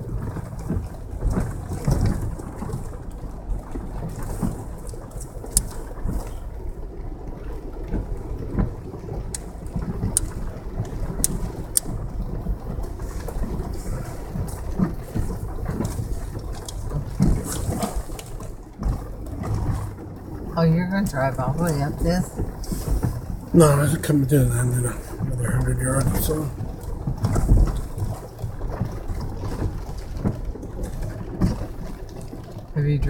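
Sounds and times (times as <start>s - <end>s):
engine tyres and water rumble: 0.0s - 33.0s.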